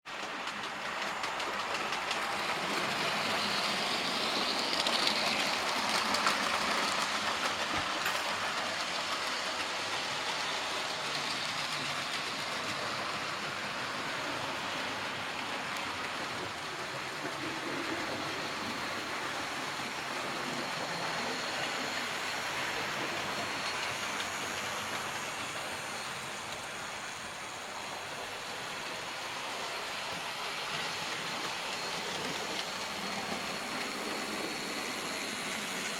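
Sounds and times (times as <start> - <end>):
model train rumbling on track: 0.1 - 35.9.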